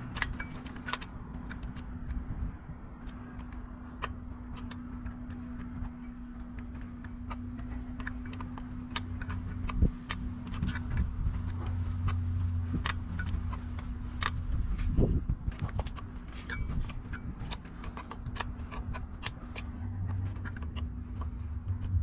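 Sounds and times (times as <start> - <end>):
metallic clicks of hand tools: 0.0 - 22.0
steady low hum: 0.0 - 22.0.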